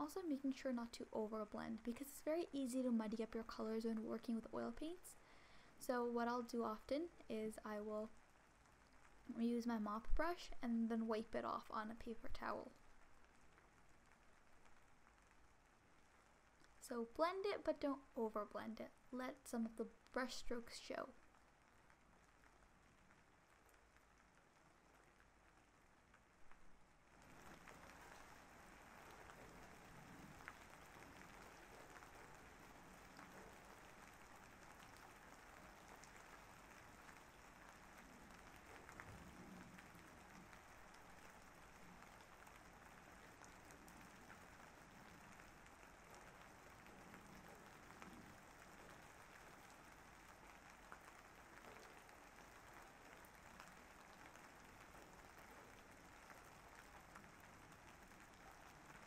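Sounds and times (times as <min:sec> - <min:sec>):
faint steady rain: 0:00.0 - 0:59.0
single raindrops ticking: 0:08.0 - 0:09.4, 0:11.4 - 0:59.0.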